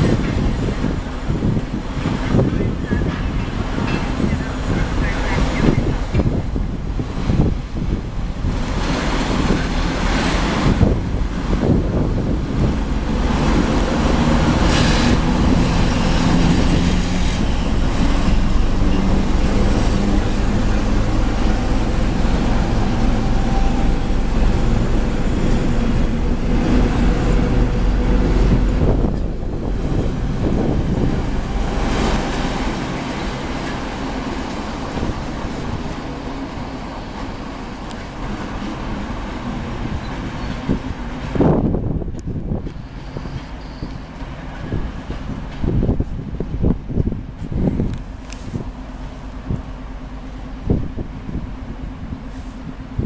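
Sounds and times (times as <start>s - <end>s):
diesel locomotive engine working: 0.0s - 53.0s
train wheels clattering on rails: 0.0s - 53.0s.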